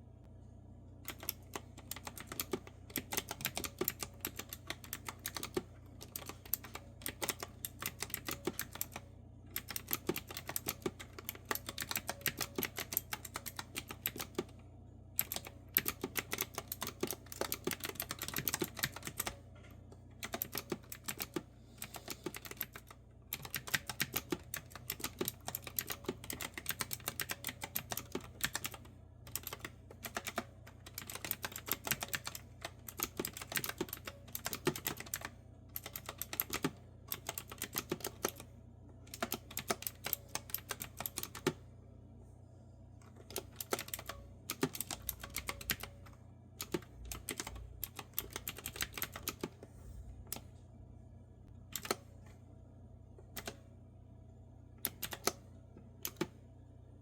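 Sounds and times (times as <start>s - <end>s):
clicky keyboard typing: 1.0s - 14.6s, 15.2s - 38.5s, 39.1s - 41.6s, 43.0s - 49.7s, 51.7s - 52.1s, 53.3s - 53.6s, 54.8s - 55.4s, 56.0s - 56.4s.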